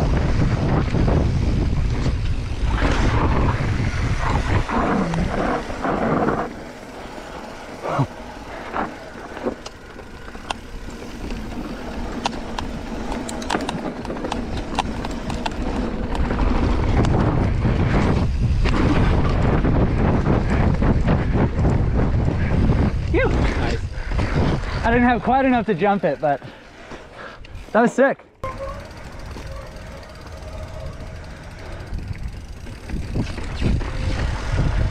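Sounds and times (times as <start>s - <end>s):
wind buffeting microphone: 0.0s - 25.6s, 28.4s - 34.9s
bike rattling and knocking: 0.0s - 26.6s, 28.4s - 34.9s
bike tyres on dirt: 0.0s - 34.9s.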